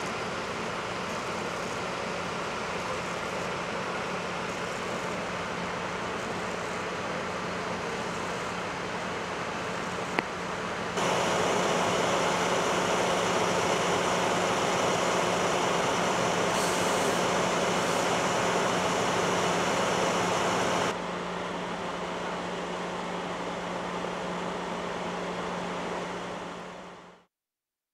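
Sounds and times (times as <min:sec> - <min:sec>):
fire truck engines rumbling: 0:00.1 - 0:26.7.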